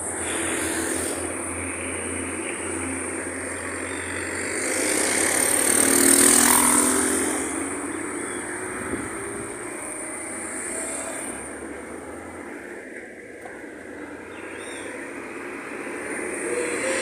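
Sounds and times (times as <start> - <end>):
highway traffic noise: 0.0 - 17.0.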